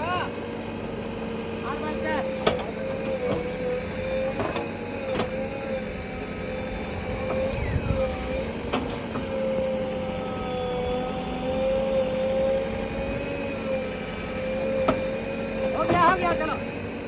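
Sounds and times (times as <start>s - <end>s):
diesel engine whining: 0.0s - 17.0s.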